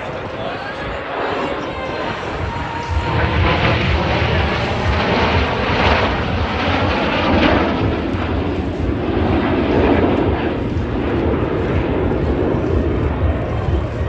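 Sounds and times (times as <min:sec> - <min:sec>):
airplane flying by: 0:00.0 - 0:14.0.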